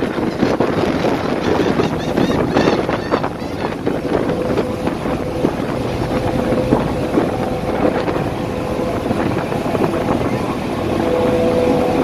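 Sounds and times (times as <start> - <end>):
ship running noise: 0.0 - 12.0
wind buffeting microphone: 0.0 - 12.0.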